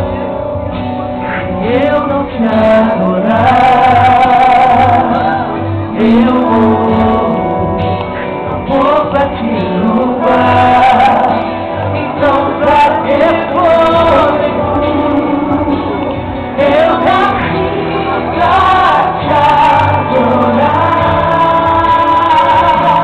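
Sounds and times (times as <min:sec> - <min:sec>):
amplified backing music: 0:00.0 - 0:23.0
woman singing into microphone: 0:01.4 - 0:23.0.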